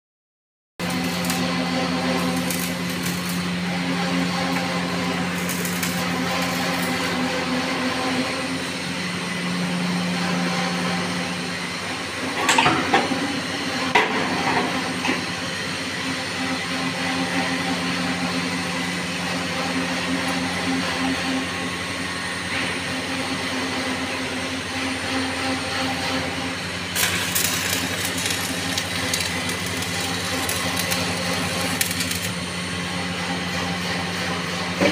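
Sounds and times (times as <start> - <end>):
arc welder electrical hum: 0.8 - 34.9.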